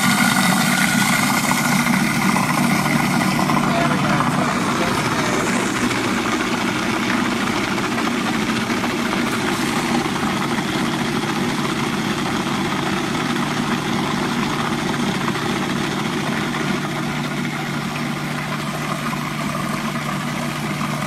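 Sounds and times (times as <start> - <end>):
food processor motor humming: 0.0 - 21.0.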